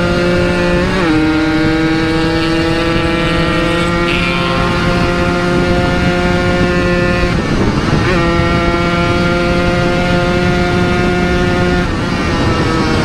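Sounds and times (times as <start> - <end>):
motorcycle engine at high revs: 0.0 - 13.0
wind noise on microphone: 0.0 - 13.0.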